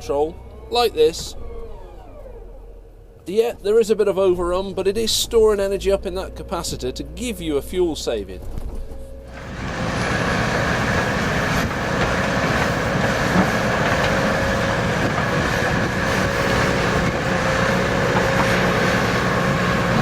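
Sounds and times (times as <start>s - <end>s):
excavator running: 0.0s - 20.0s.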